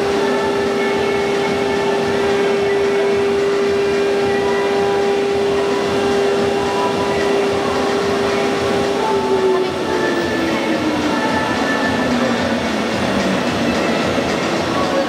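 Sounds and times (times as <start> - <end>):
router spindle high whine: 0.0 - 15.0.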